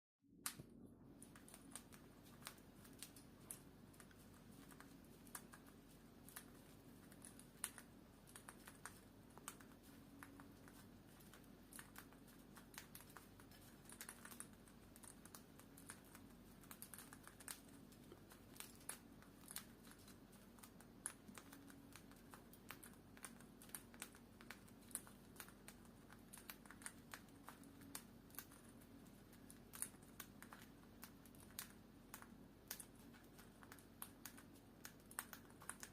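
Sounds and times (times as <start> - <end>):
parakeets chomping with beaks: 1.2 - 35.9.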